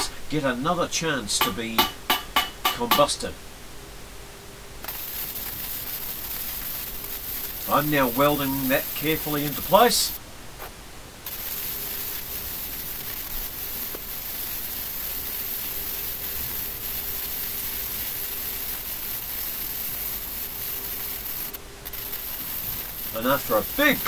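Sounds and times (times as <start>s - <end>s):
welding arc hissing: 0.0s - 0.2s, 4.8s - 24.0s.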